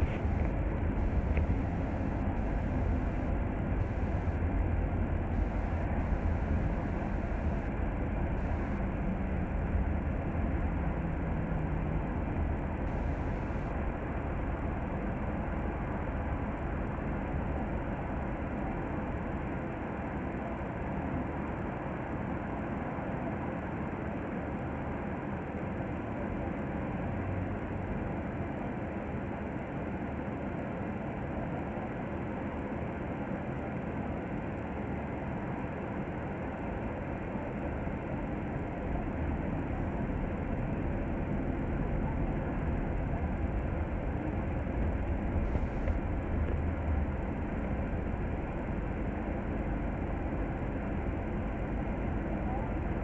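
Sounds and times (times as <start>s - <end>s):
bus engine and road noise: 0.0s - 24.2s, 25.2s - 31.1s, 33.7s - 53.0s.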